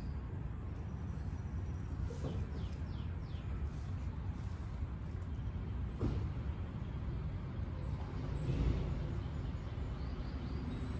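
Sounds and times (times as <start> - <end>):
bird chirping: 0.0 - 10.9
low outdoor rumble: 0.0 - 10.9.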